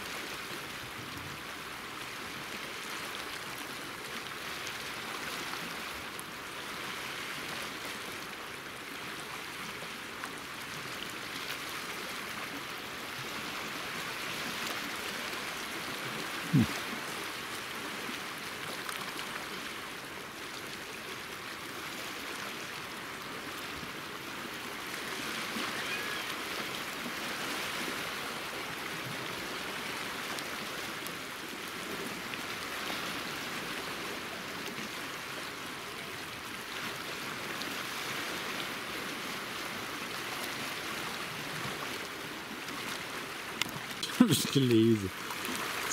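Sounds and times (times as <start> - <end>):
waves lapping over rocks: 0.0 - 45.9.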